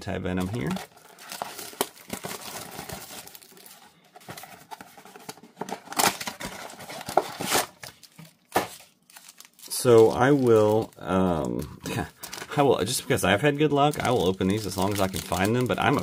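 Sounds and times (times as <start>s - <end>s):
plastic wrap tearing and crinkling: 0.3s - 16.0s.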